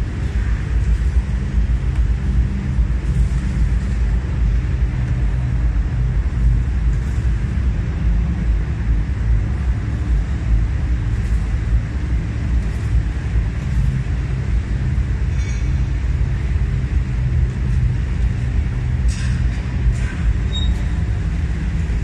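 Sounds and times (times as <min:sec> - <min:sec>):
exhibition hall low rumble and hum: 0:00.0 - 0:22.0.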